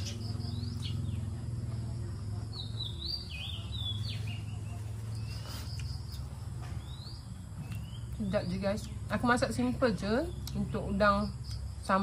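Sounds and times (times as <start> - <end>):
birds calling with whistled notes: 0.0 - 12.0.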